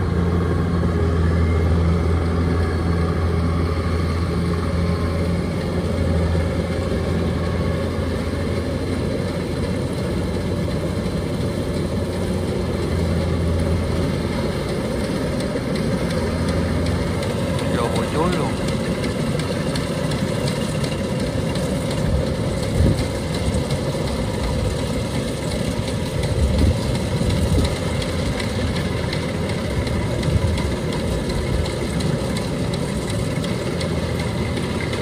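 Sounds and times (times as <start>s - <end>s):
combine harvester diesel engine: 0.0s - 35.0s.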